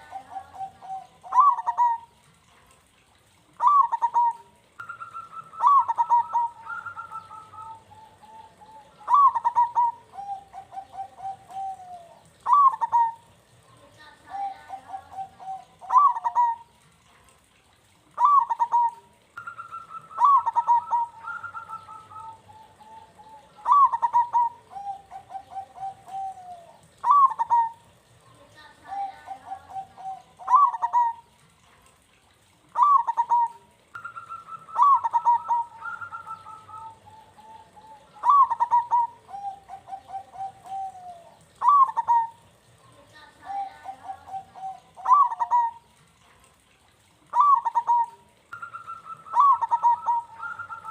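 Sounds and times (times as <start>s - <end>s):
dove cooing: 0.0s - 17.0s, 18.1s - 31.5s, 32.6s - 46.2s, 47.1s - 50.9s
higher-pitched dove cooing: 0.0s - 17.1s, 18.0s - 31.5s, 32.6s - 50.9s.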